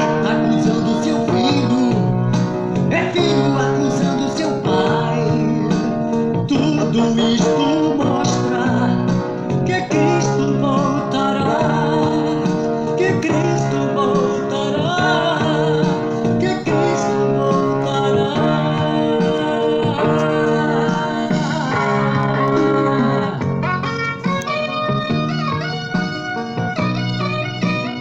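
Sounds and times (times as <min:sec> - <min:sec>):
gospel band led by guitar: 0:00.0 - 0:28.0.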